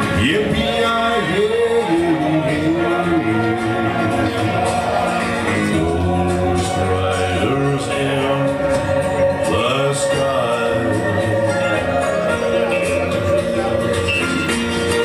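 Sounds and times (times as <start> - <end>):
live band playing: 0.0 - 15.0
man singing: 0.0 - 15.0.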